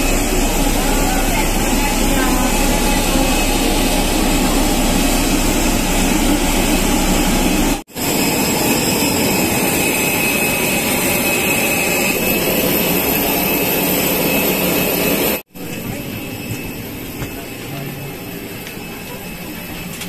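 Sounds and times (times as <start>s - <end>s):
jet airliner roar: 0.0s - 20.0s.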